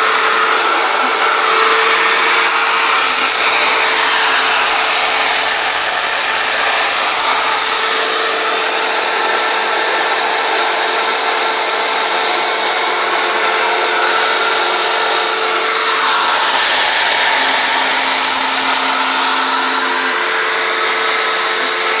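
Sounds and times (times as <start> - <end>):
router spindle motor whine: 0.0 - 22.0.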